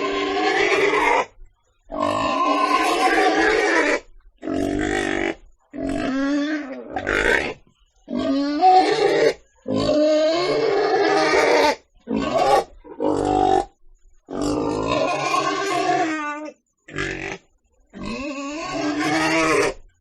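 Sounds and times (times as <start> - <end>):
pig grunting and squealing: 0.0 - 20.0.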